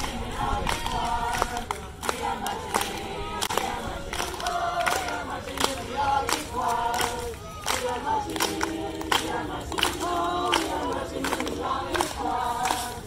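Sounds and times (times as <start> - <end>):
choir singing: 0.0 - 13.0
hand claps: 0.0 - 13.0.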